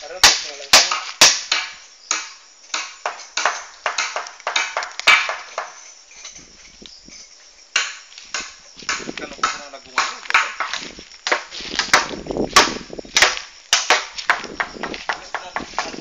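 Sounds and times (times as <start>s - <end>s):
tool striking wood: 0.2s - 5.8s, 7.7s - 16.0s.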